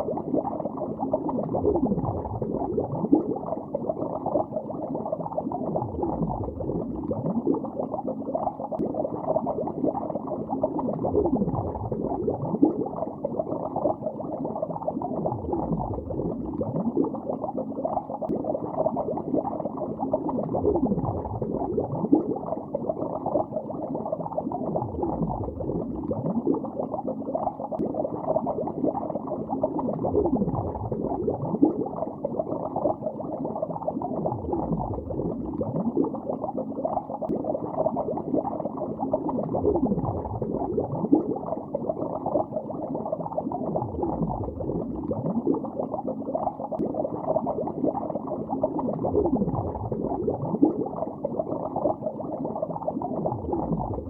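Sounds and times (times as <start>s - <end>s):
underwater bubbling: 0.0s - 54.0s.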